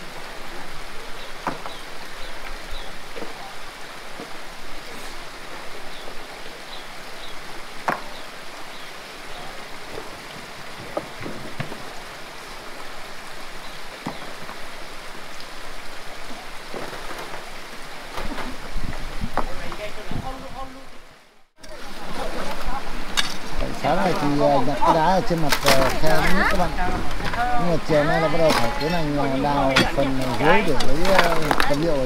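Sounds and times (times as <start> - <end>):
mountain stream running: 0.0 - 32.0.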